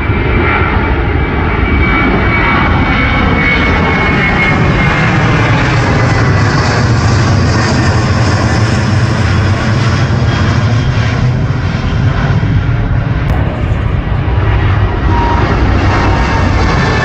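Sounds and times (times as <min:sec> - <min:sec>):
jet airliner roaring overhead: 0:00.0 - 0:17.0.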